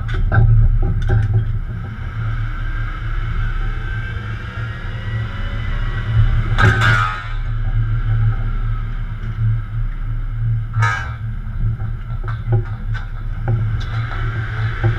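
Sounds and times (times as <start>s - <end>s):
engine low drone: 0.0s - 14.9s.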